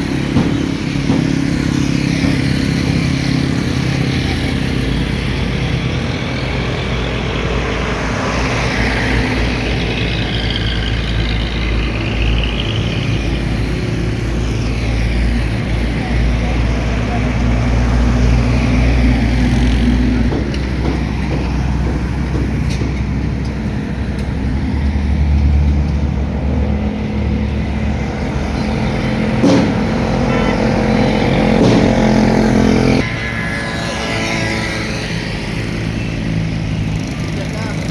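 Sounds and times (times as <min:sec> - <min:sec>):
vehicles driving past: 0:00.0 - 0:37.9.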